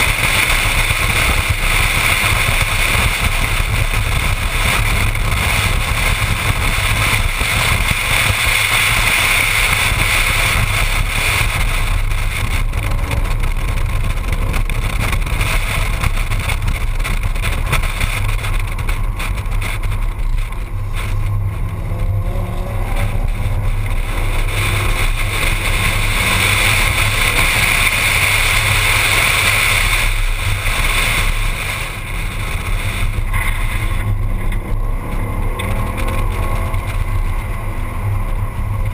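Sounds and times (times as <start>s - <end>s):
car engine driving: 0.0s - 38.9s
wind rumble on microphone: 0.0s - 38.9s.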